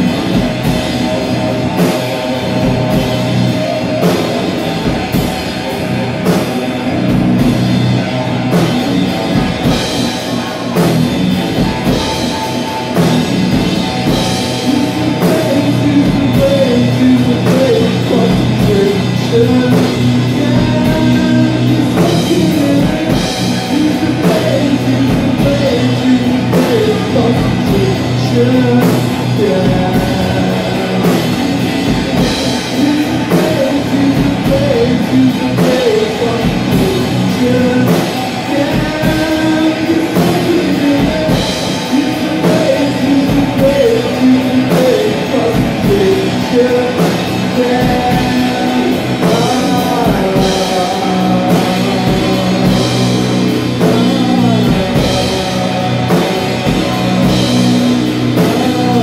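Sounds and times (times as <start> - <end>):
drum kit with cymbals: 0.0 - 59.0
electric guitar riffs: 0.0 - 59.0.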